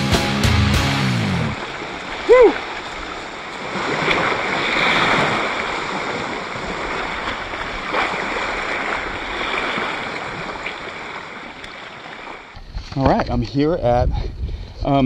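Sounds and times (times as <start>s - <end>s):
water lapping: 1.4s - 15.0s.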